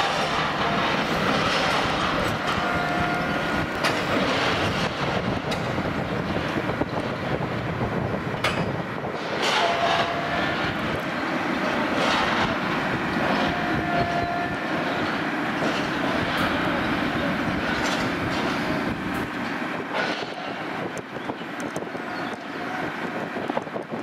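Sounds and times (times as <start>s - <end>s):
train rumbling past: 0.0s - 23.9s.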